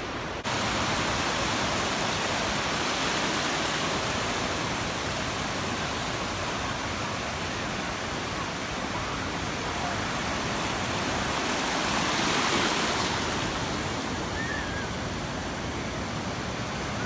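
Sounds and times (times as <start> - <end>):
ocean surf rushing: 0.0 - 17.0.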